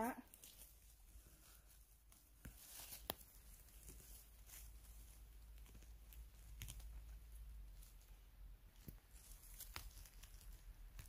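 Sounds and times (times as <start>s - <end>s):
rustling on forest floor: 0.1s - 11.0s
twigs cracking and snapping: 0.3s - 11.0s.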